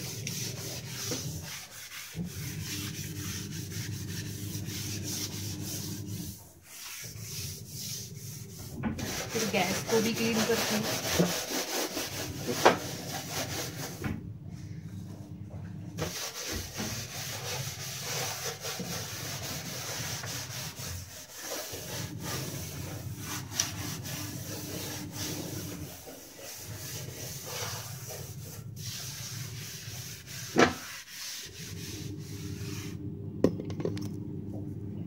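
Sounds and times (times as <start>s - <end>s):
hand scrubber scrubbing countertop: 0.0s - 33.1s.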